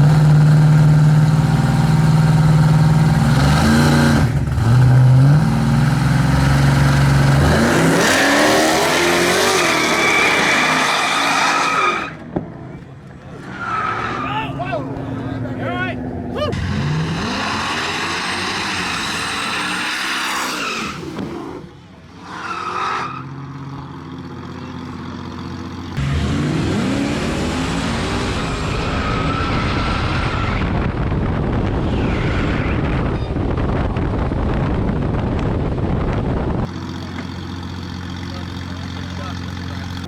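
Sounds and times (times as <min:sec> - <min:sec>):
drag racing engines accelerating: 0:00.0 - 0:40.0.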